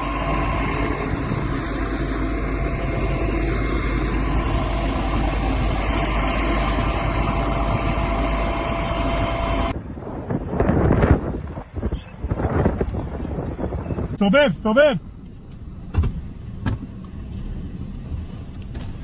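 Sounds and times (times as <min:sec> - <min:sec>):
faint steady whine: 0:00.0 - 0:19.0
gusty wind noise: 0:00.0 - 0:19.0
traffic engine and road noise: 0:00.0 - 0:19.0.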